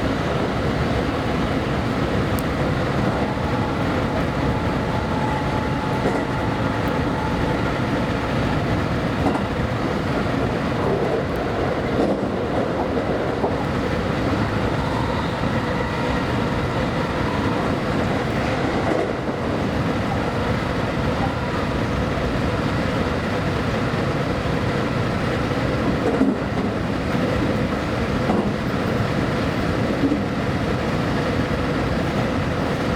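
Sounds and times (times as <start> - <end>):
wheels rumbling on rail: 0.0 - 32.9.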